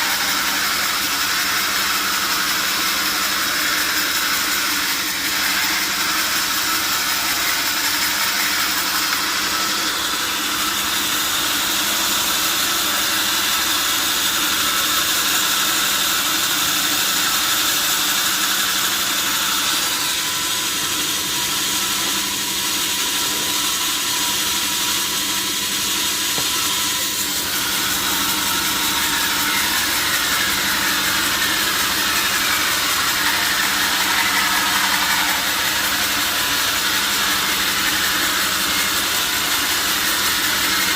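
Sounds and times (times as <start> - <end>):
power saw cutting log: 0.0 - 40.9.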